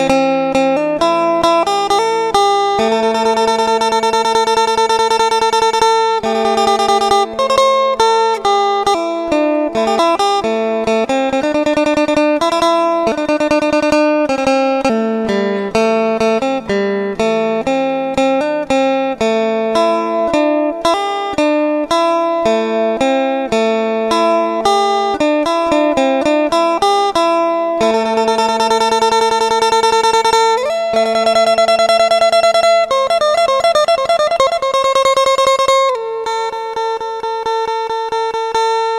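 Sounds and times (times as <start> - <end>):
plucked guitar melody: 0.0 - 38.9.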